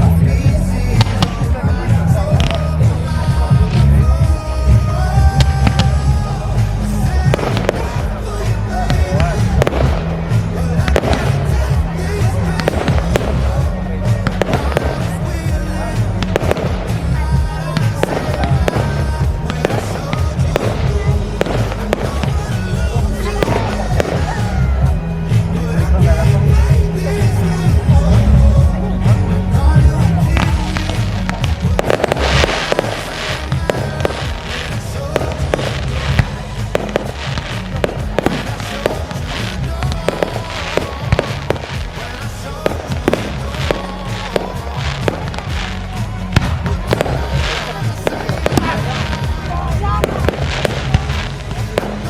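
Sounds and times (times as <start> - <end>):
fireworks bangs and crackles: 0.0 - 52.0
music with strong bass: 0.0 - 52.0.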